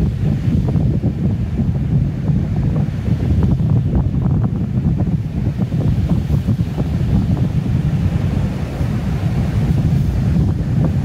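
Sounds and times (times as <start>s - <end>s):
rush of wind: 0.0s - 11.0s
wind buffeting microphone: 0.0s - 11.0s.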